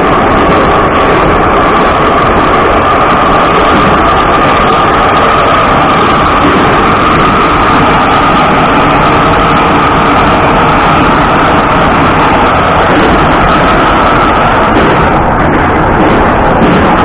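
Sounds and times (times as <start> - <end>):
high whine: 0.0 - 17.0
metro car rumble and rail noise: 0.0 - 17.0.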